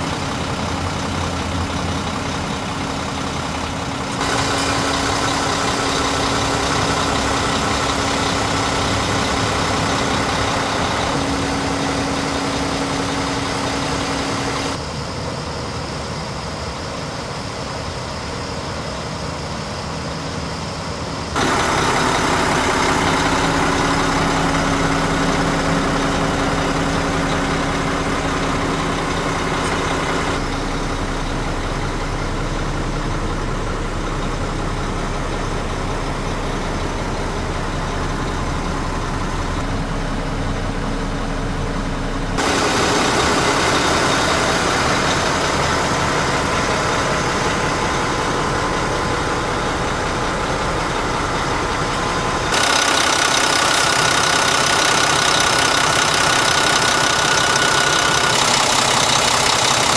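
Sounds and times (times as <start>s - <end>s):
diesel truck engine idling: 0.0s - 15.4s, 20.9s - 59.9s.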